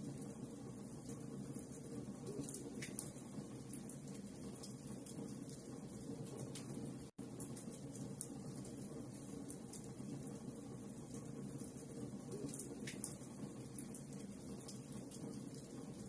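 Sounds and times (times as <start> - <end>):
fire crackling and popping: 0.2 - 16.0.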